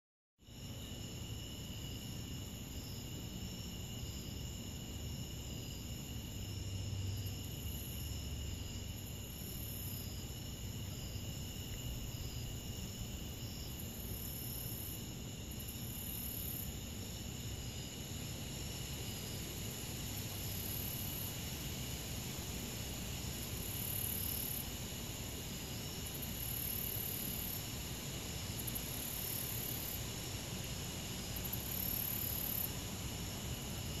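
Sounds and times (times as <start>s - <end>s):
insects trilling: 0.4s - 34.0s.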